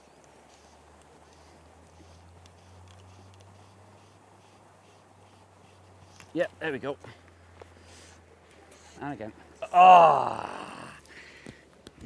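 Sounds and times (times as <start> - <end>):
light hiss: 0.0 - 12.0.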